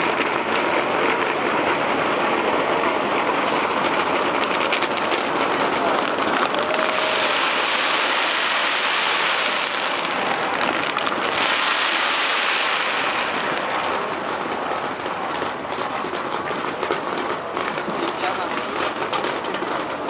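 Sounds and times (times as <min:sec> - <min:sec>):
fireworks booms: 0:00.0 - 0:20.0
fireworks crackling: 0:00.0 - 0:20.0.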